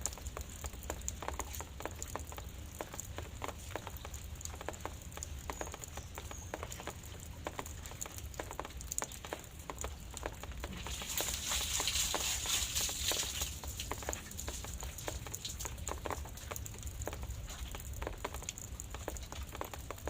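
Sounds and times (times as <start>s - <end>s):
rain hiss: 0.0s - 20.0s
raindrops pattering: 0.0s - 20.0s.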